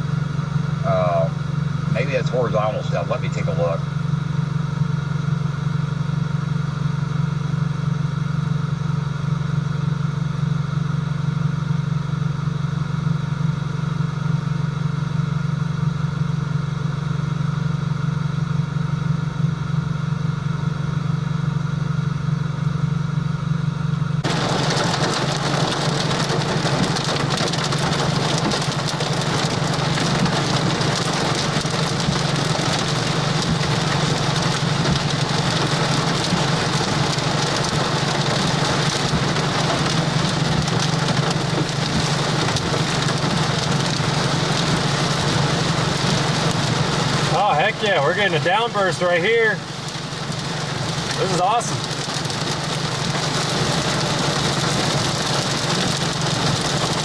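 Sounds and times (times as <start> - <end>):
heavy rain pelting a car: 0.0 - 18.9, 23.8 - 57.0
car engine idling: 0.0 - 57.0.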